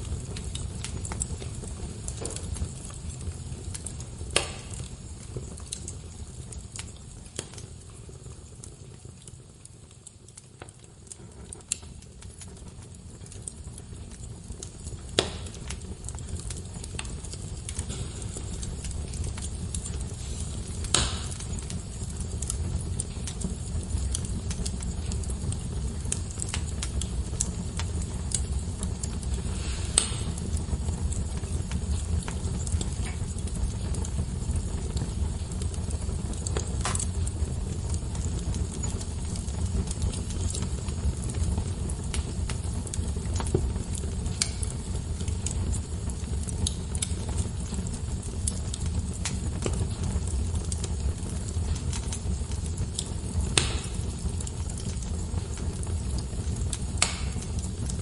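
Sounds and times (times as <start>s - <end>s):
fire flames rumbling: 0.0s - 58.0s
wood fire crackling and popping: 0.0s - 58.0s.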